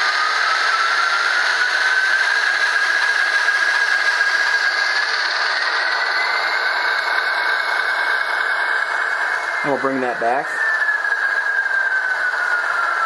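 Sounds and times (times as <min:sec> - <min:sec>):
diesel engine from small speaker: 0:00.0 - 0:13.0
turbocharger whine rising: 0:00.0 - 0:13.0.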